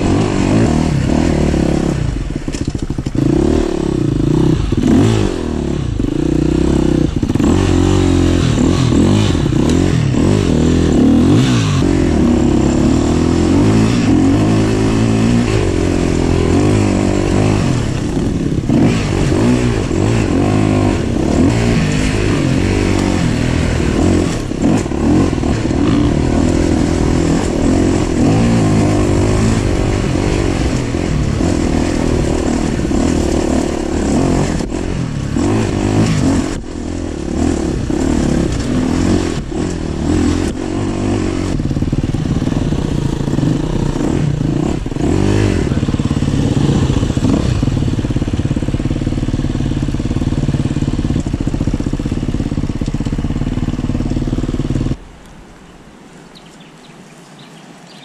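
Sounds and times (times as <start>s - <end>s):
dirt bike engine: 0.0s - 56.7s.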